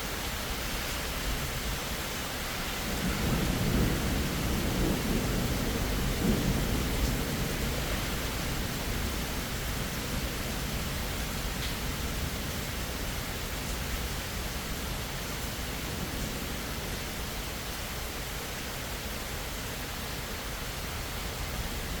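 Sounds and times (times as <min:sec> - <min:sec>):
rain falling steadily: 0:00.0 - 0:22.0.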